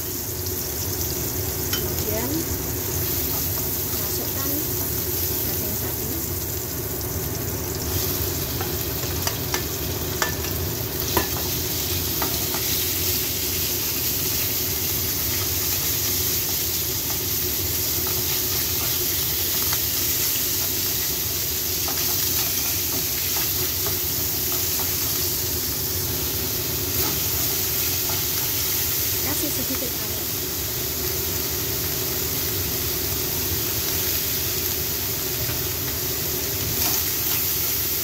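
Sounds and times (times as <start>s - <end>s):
meat sizzling in oil: 0.0s - 38.0s.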